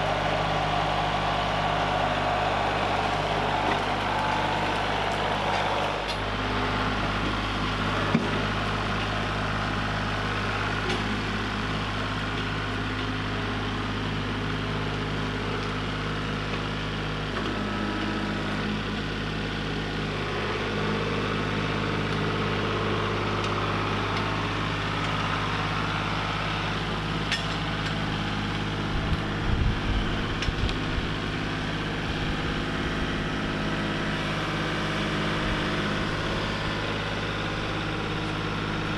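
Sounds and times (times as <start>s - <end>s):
engine running with low hum: 0.0s - 38.9s.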